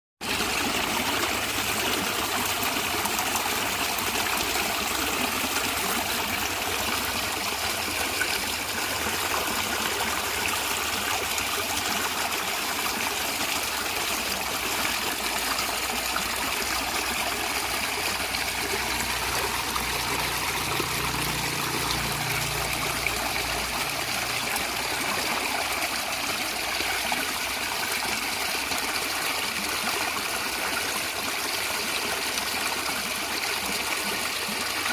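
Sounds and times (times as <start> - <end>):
stream water gurgling over rocks: 0.2 - 34.9.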